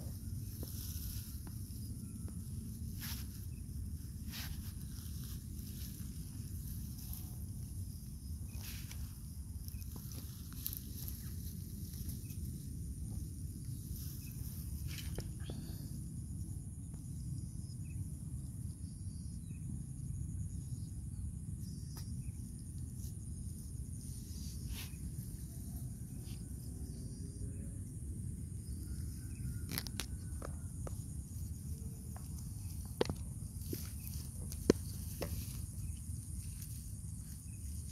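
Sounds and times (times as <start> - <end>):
high insect drone: 0.0 - 37.9.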